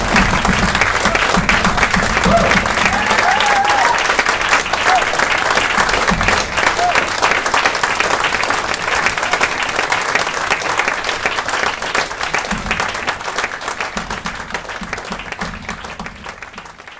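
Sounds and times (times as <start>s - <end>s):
audience clapping: 0.0s - 16.9s.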